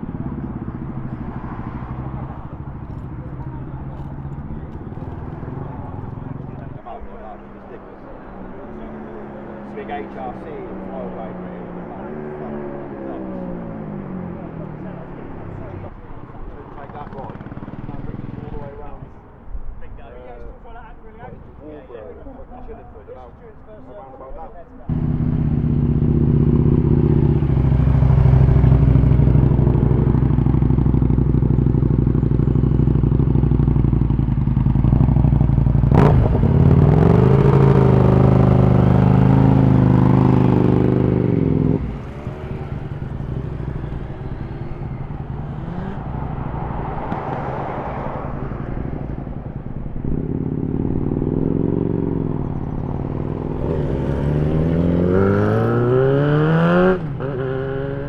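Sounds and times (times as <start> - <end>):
motorcycle engines revving: 0.0 - 19.2, 24.9 - 58.0.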